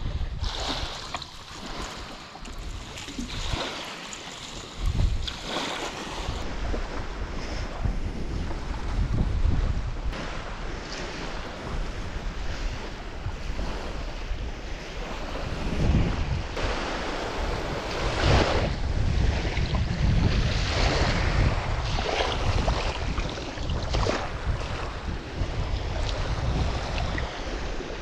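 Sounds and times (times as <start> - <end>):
wind buffeting microphone: 0.0 - 3.9, 4.5 - 28.0
waves washing onto sand: 0.0 - 9.2, 10.1 - 28.0.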